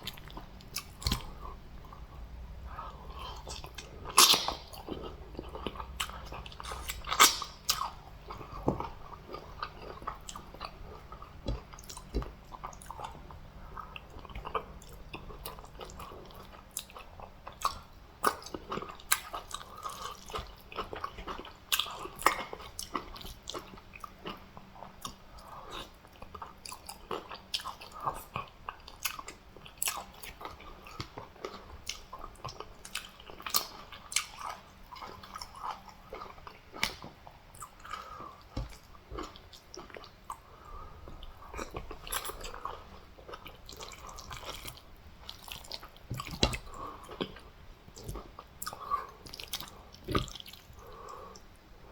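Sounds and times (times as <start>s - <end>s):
wet chewing and mouth smacking: 0.0s - 51.6s.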